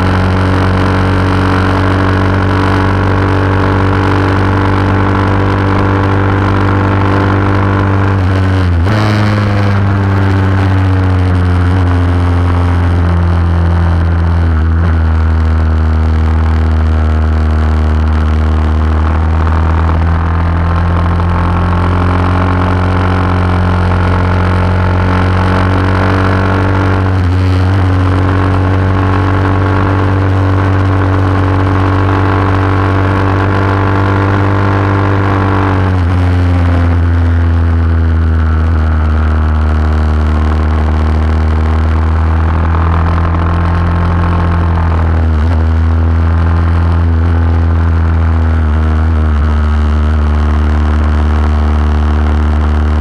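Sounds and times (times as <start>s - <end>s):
motorcycle engine revving high: 0.0s - 53.0s.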